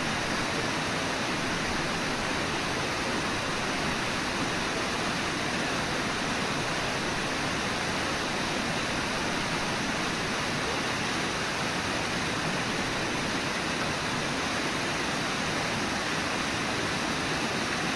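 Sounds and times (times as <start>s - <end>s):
waterfall and rapids rushing: 0.0s - 17.9s.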